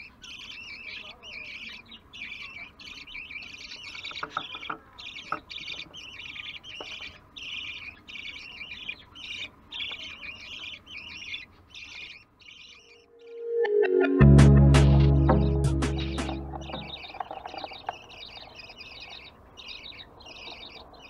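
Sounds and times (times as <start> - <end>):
nestlings raspy begging calls: 0.0 - 13.3, 15.1 - 21.0.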